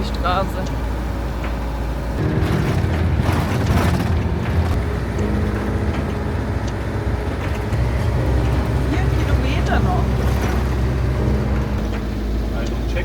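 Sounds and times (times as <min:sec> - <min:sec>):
engine and road hum: 0:00.0 - 0:13.0
van body rattling and creaking: 0:00.0 - 0:13.0.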